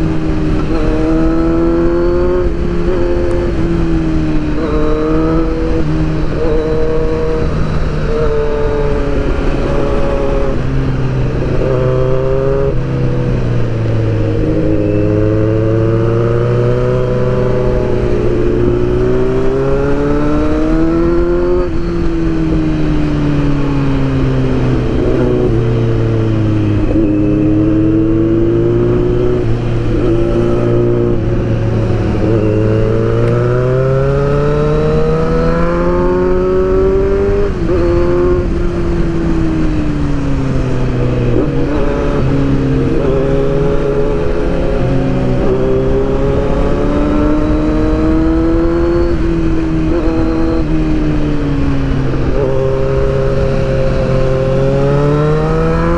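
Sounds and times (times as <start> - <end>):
motorcycle engine revving: 0.0 - 55.9
wind and road rush: 0.0 - 55.9.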